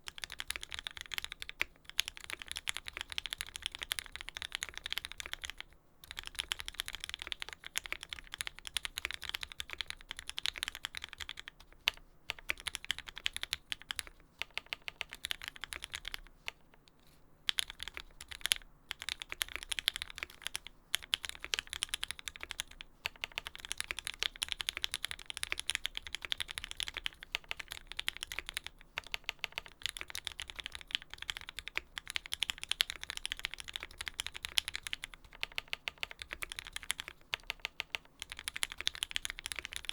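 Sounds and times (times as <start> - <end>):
mechanical keyboard typing: 0.0 - 16.9, 17.5 - 39.9.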